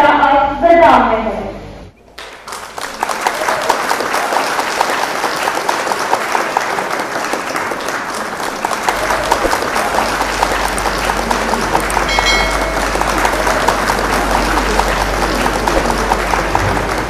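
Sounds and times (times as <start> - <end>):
audience applauding: 2.1 - 17.0.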